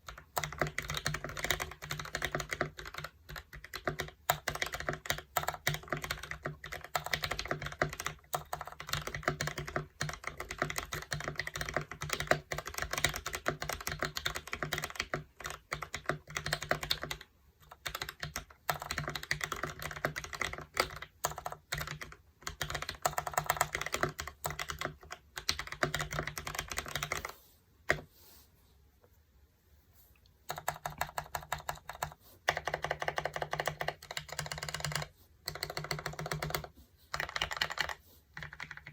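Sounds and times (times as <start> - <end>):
fast typing on a mechanical keyboard: 0.0 - 27.3, 30.5 - 38.9.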